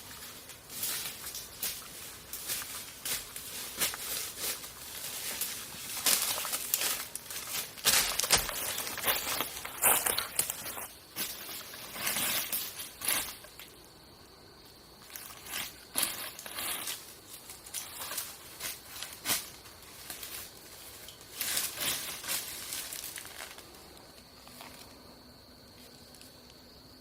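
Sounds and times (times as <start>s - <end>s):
crunching and rustling: 0.0s - 13.9s, 14.8s - 27.0s.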